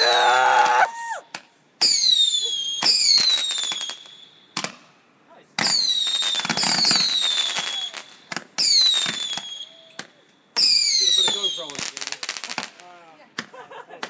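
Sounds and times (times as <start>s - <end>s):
fireworks whistling: 0.0s - 1.2s, 1.8s - 4.8s, 5.6s - 12.8s
fireworks crackling pops: 0.0s - 14.0s.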